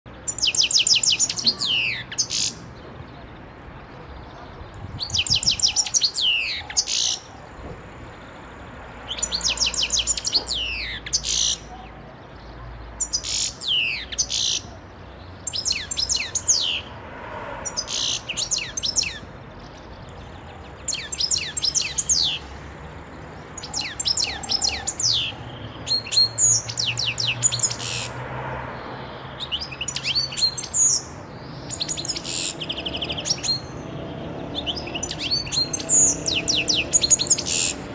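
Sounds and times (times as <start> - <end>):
bird twittering song: 0.1 - 17.0, 17.6 - 28.2, 29.0 - 37.9.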